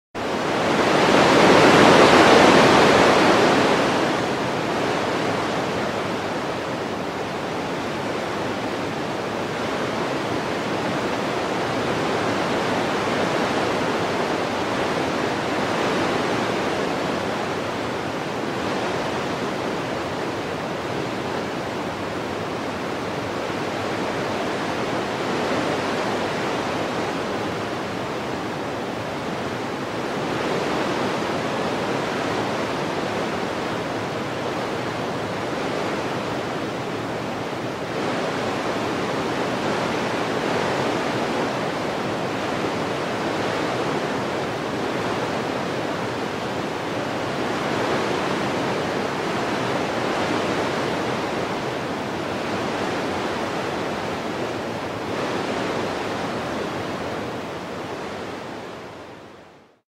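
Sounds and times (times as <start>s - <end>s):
wind blowing in gusts: 0.2s - 59.8s.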